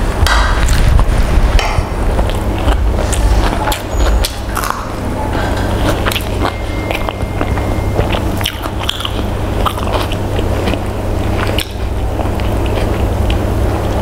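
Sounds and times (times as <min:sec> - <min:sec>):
steady low hum: 0:00.0 - 0:14.0
chewing rice: 0:02.1 - 0:14.0.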